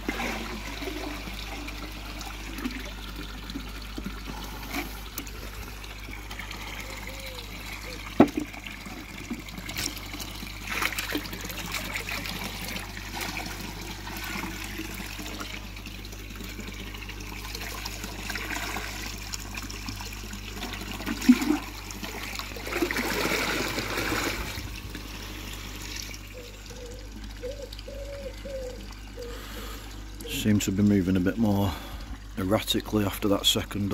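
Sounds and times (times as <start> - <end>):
water splashing and trickling: 0.0 - 33.9.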